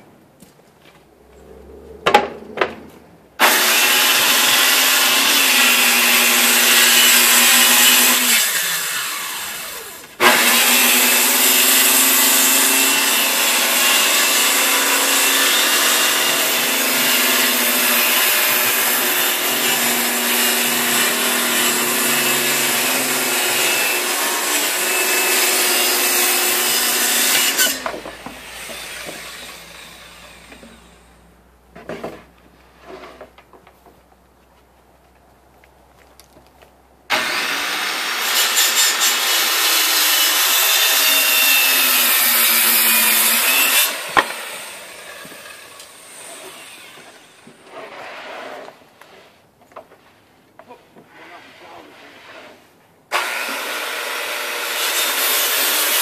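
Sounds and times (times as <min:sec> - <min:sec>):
circular saw cutting plywood: 0:02.1 - 0:31.2, 0:37.1 - 0:49.4, 0:51.1 - 0:56.0.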